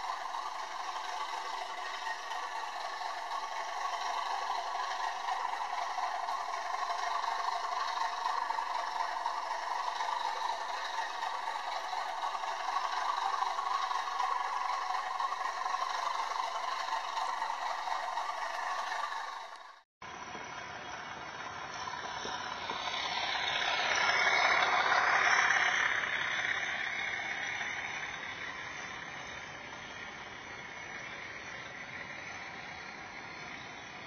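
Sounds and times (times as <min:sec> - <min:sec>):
model train wheels clattering: 0:00.0 - 0:34.0.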